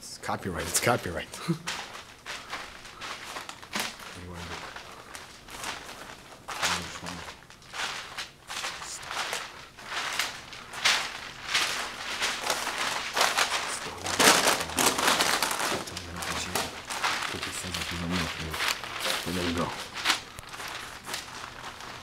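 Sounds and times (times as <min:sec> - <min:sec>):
rustling and scuffing: 0:00.5 - 0:22.0.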